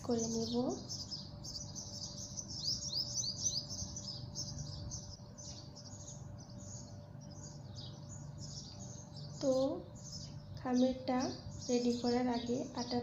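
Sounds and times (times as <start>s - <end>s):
faint low hum: 0.0s - 13.0s
small birds chirping: 0.0s - 13.0s.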